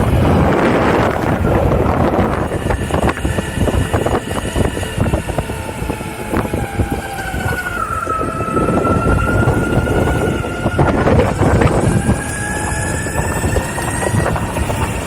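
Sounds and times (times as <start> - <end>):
thin motor whine: 0.0 - 15.0
tyres rumbling over rough ground: 0.0 - 15.0
wind on microphone: 0.0 - 15.0.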